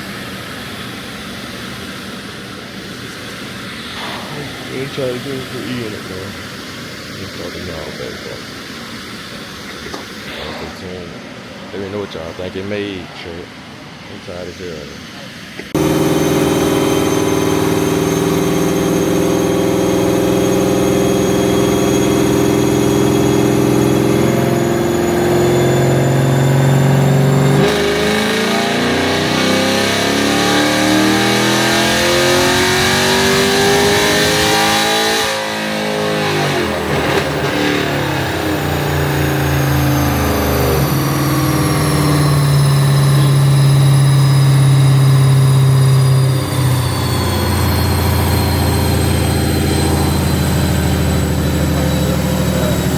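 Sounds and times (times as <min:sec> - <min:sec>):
car engine revving on dyno: 0:00.0 - 0:12.6, 0:14.9 - 0:52.9.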